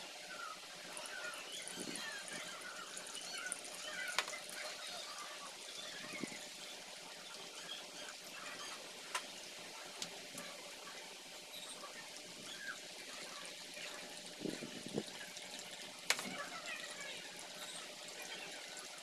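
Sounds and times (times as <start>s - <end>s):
water trickling onto coffee grounds: 0.0s - 19.0s.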